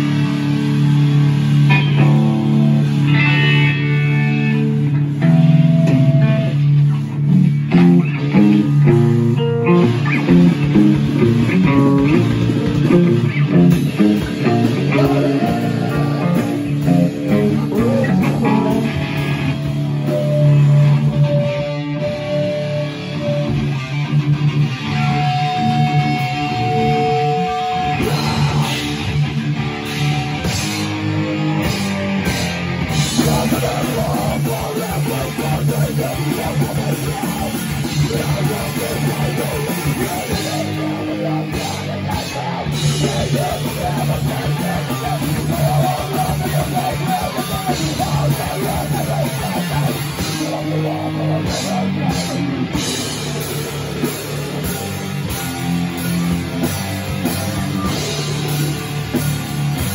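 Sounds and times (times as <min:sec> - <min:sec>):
loud electric guitars: 0:00.0 - 0:59.9.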